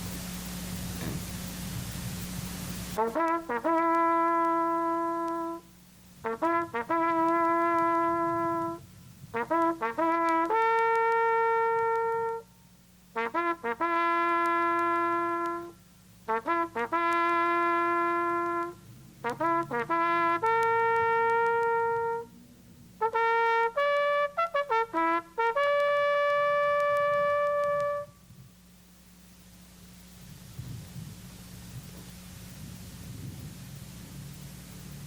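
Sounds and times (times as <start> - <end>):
solo bugle call: 0.0 - 28.7.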